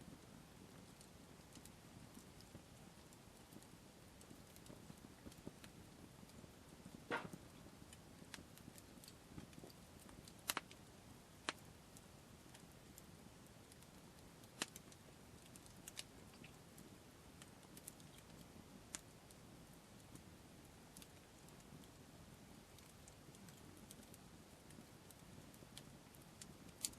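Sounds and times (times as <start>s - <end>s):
campfire crackling: 0.0s - 26.9s.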